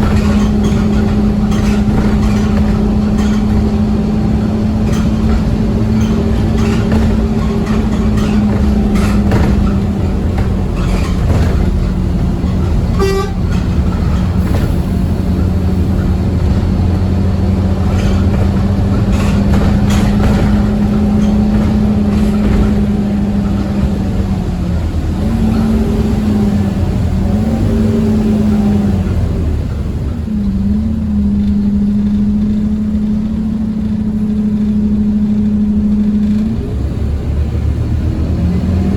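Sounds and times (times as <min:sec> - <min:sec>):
bus engine drone: 0:00.0 - 0:38.9
road rumble: 0:00.0 - 0:38.9.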